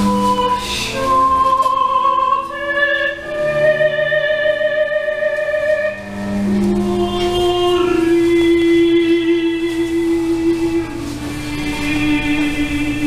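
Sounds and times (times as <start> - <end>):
music with long held notes: 0.0 - 13.0.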